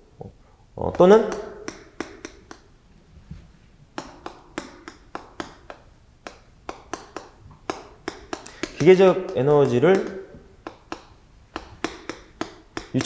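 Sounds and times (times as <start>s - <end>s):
chalk tapping on blackboard: 0.9s - 2.7s, 4.0s - 13.0s.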